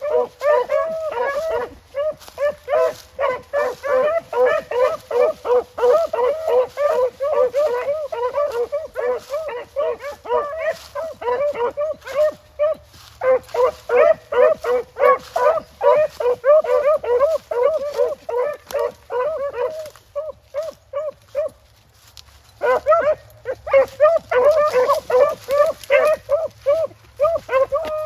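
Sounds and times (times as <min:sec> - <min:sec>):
hounds baying and barking: 0:00.0 - 0:28.0.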